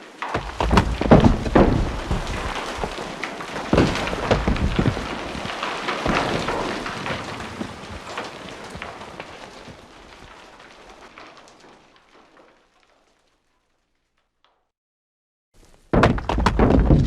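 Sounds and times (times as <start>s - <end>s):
rocks tumbling and clattering: 0.0s - 14.5s, 15.6s - 17.0s.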